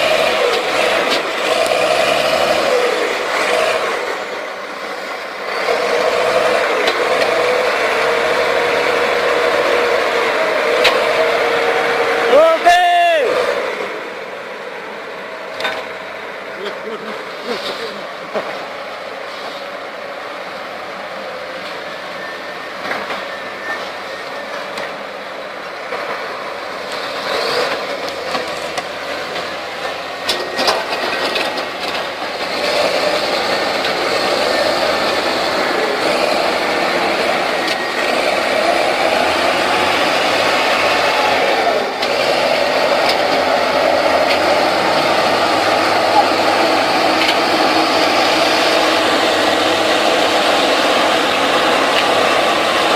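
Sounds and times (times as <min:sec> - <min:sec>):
heavy diesel engines under load: 0:00.0 - 0:52.9.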